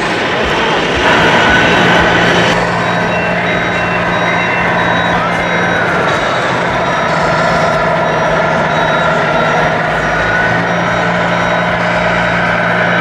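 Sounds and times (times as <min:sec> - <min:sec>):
diesel truck engine sound: 0:00.0 - 0:13.0
reversing beeps: 0:01.0 - 0:13.0.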